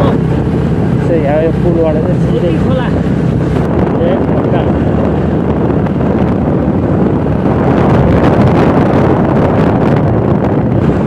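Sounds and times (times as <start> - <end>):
motorcycle engine and road noise: 0.0 - 11.0
wind buffeting microphone: 0.0 - 11.0.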